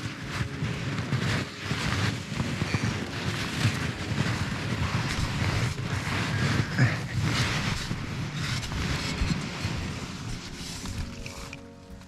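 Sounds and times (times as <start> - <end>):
shovel scraping packed snow: 0.0 - 12.0.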